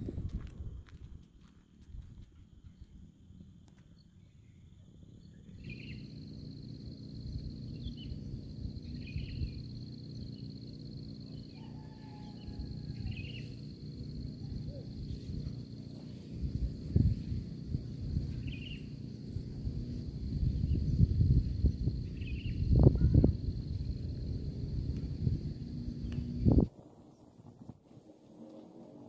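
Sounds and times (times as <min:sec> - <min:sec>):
high insect drone: 0:00.0 - 0:29.0
wind rumble on microphone: 0:00.0 - 0:29.0.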